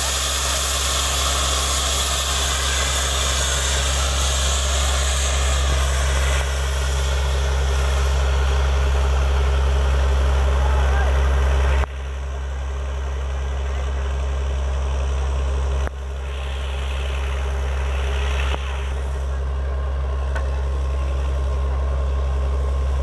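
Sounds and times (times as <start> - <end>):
diesel engine humming: 0.0 - 23.0
drilling machinery noise: 0.0 - 23.0.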